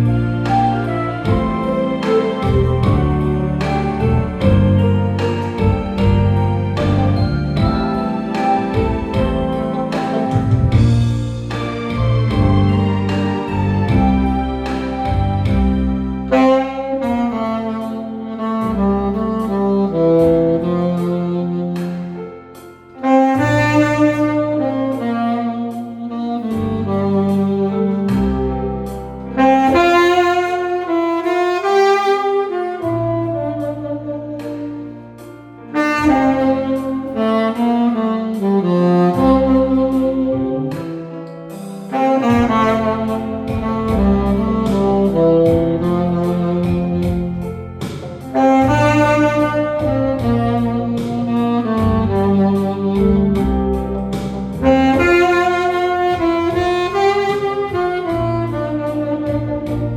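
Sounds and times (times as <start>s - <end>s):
backing track with bass line: 0.0s - 59.9s
tenor saxophone ballad melody: 0.0s - 59.9s.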